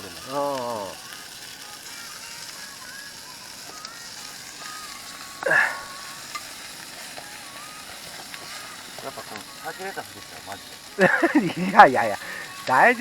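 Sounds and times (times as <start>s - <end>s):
offal sizzling on a grill: 0.0s - 13.0s.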